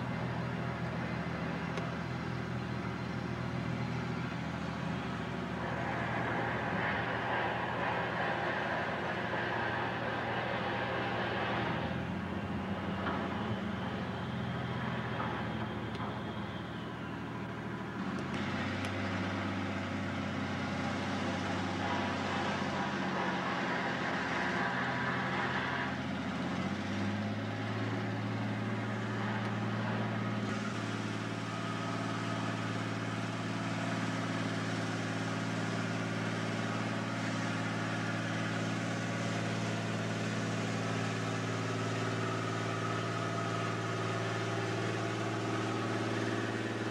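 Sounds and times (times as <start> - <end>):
diesel engine of heavy machine: 0.0 - 46.9.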